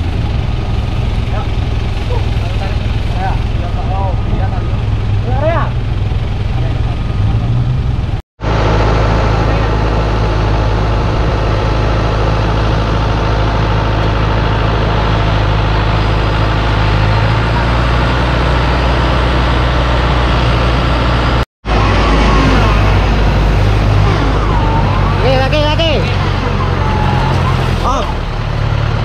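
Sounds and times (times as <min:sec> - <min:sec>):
off-road vehicle engine running: 0:00.0 - 0:29.0.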